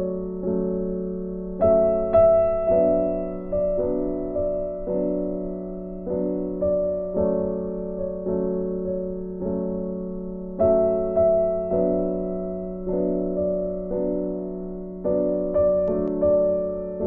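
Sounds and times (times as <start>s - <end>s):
soft piano melody: 0.0s - 17.0s.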